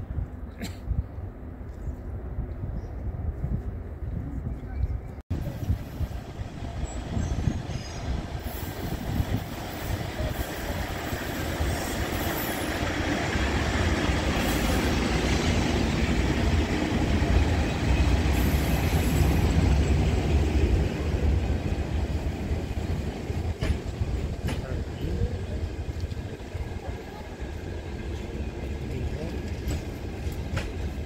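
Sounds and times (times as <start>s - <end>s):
train wheels rumbling on rails: 5.3s - 31.0s.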